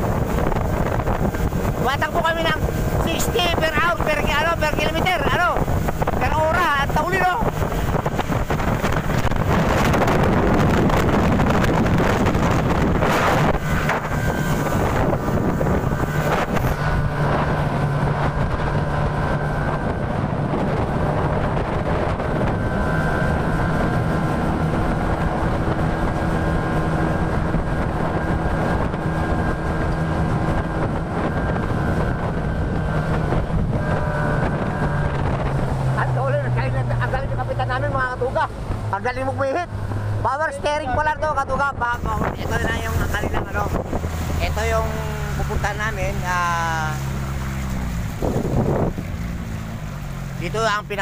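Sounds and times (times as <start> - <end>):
speedboat engine running: 0.0 - 51.0
water rushing past hull: 0.0 - 51.0
wind buffeting microphone: 0.0 - 51.0.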